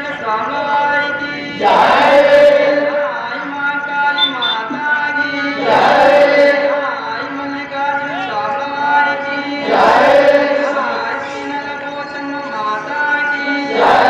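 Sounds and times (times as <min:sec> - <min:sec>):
men chanting a prayer: 0:00.0 - 0:14.0.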